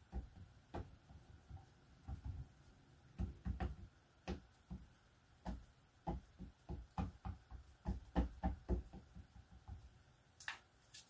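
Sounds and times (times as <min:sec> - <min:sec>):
ink pad tapping a rubber stamp: 0:00.0 - 0:02.4, 0:03.1 - 0:09.9.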